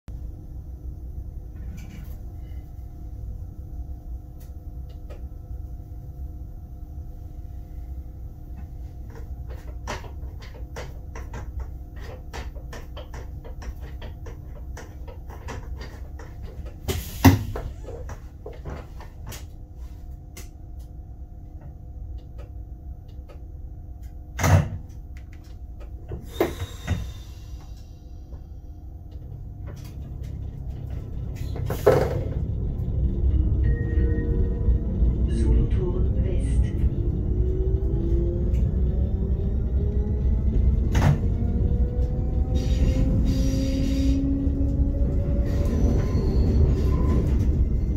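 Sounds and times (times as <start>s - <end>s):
train cab low rumble: 0.1s - 47.9s.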